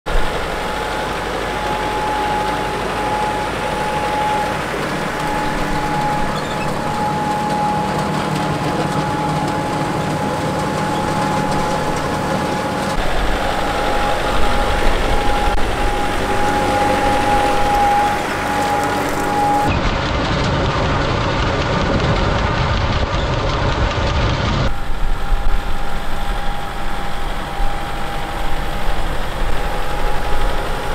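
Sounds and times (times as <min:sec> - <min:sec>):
high whine: 0:00.1 - 0:30.9
tractor engine under load: 0:00.1 - 0:30.9.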